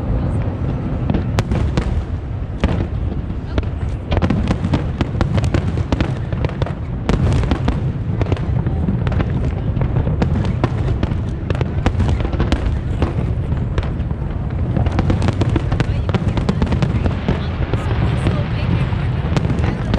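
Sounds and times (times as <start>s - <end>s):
fireworks bangs and crackles: 0.0s - 19.9s
low rumble of booms: 0.0s - 19.9s.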